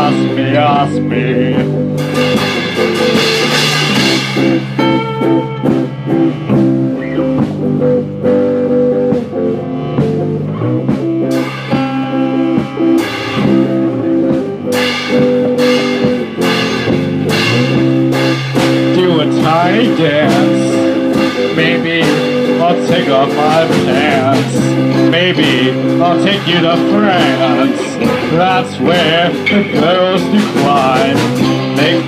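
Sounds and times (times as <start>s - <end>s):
drum kit: 0.0s - 32.0s
electric guitar: 0.0s - 32.0s.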